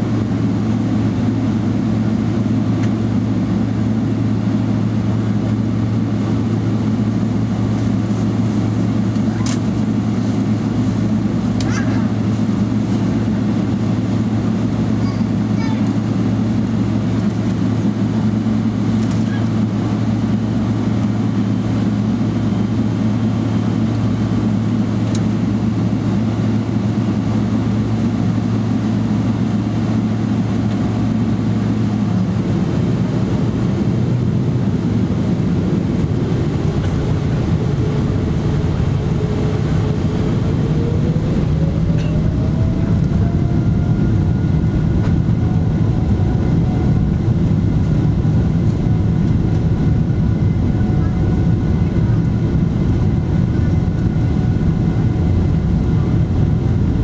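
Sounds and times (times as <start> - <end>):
jet engines droning and whining: 0.0 - 57.0.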